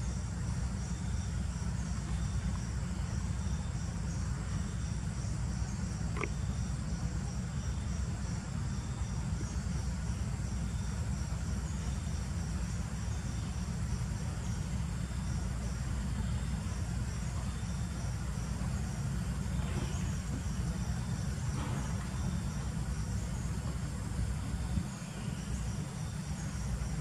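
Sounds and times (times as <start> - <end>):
insects chirping: 0.0 - 27.0
low steady rumble: 0.0 - 27.0.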